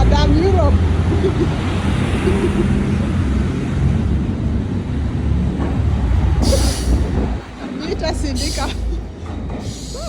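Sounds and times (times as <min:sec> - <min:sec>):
passenger train rumbling: 0:00.0 - 0:10.0.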